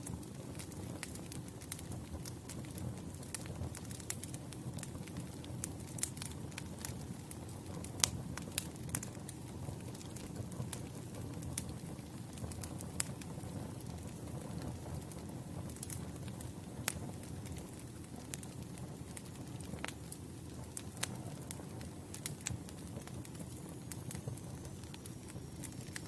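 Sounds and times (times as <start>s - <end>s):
campfire flames rumbling: 0.0s - 26.0s
fire crackling and popping: 0.0s - 26.0s.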